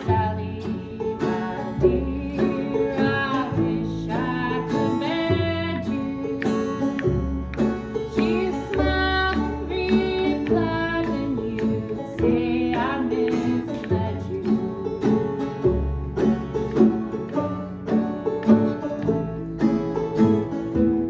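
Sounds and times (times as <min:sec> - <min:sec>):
acoustic folk band playing: 0:00.0 - 0:21.0
plucked banjo: 0:00.0 - 0:21.0.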